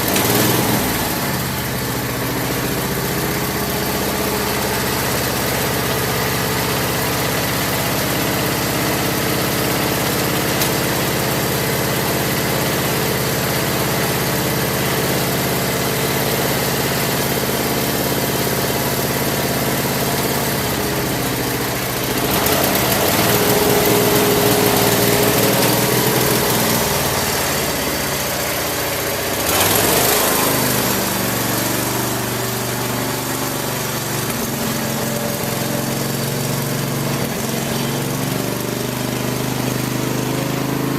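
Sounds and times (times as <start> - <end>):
lawn tractor engine running: 0.0 - 40.9.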